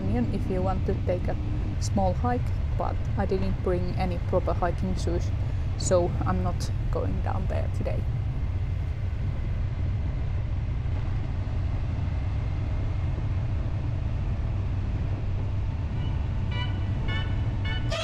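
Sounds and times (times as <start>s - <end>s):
motorcycle engine droning: 0.0s - 18.0s
road and wind noise: 0.0s - 18.0s.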